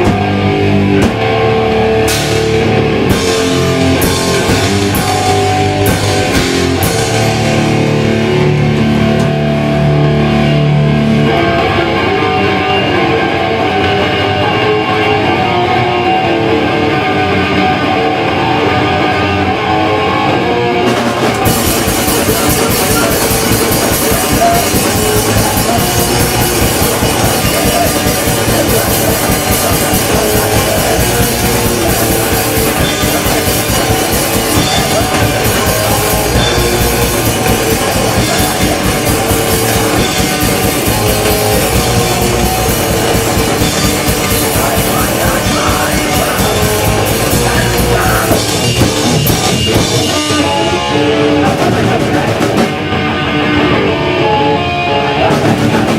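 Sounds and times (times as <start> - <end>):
punk band playing live: 0.0 - 55.9.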